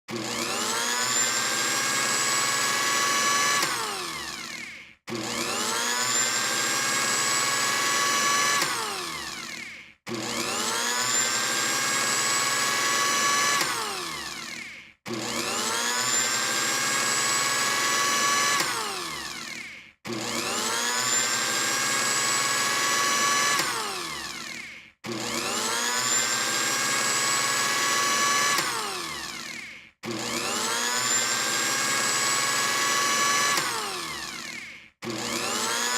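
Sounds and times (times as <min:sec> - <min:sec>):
blender motor whining: 0:00.1 - 0:35.9.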